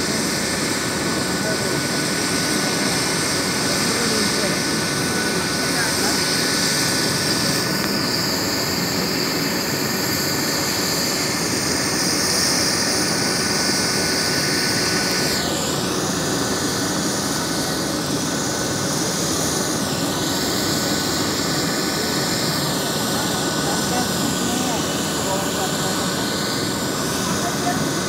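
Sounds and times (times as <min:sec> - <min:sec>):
helicopter rotor and engine noise: 0:00.0 - 0:28.0
helicopter turbine whine: 0:00.0 - 0:28.0.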